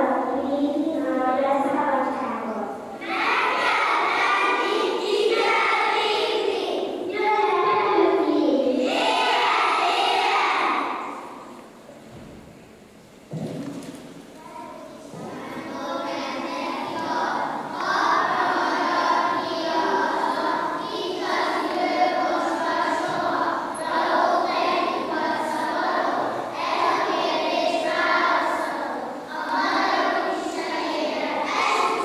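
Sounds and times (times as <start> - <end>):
children's choir singing: 1.4 - 11.7, 14.6 - 32.0.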